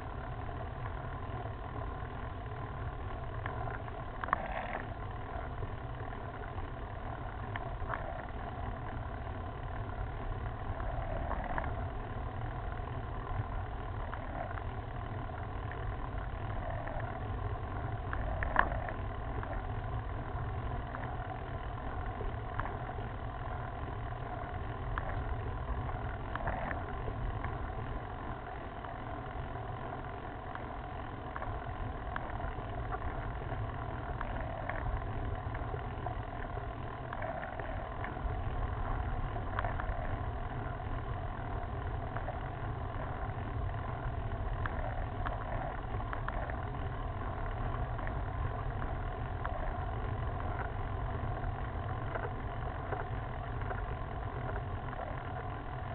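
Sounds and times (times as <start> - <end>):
faint ticks: 0.0 - 55.9
road vibration rumble: 0.0 - 55.9.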